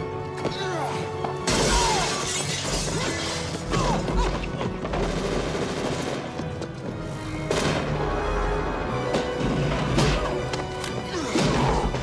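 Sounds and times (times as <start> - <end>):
dramatic film score: 0.0 - 12.0.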